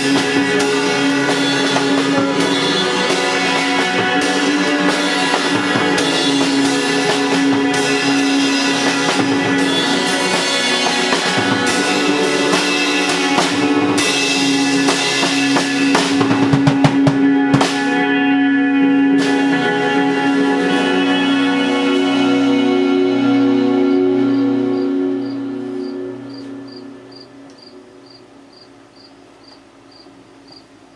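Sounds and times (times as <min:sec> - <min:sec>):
drum kit playing: 0:00.0 - 0:27.8
guitar chords: 0:00.0 - 0:28.9.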